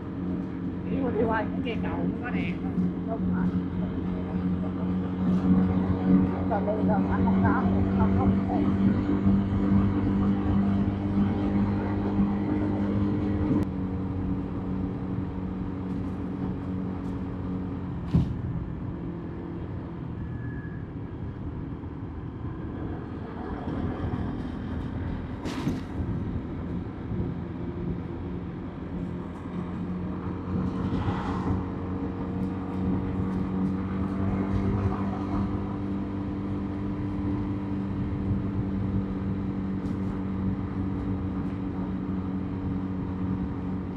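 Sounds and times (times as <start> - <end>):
tyre and road noise: 0.0 - 43.9.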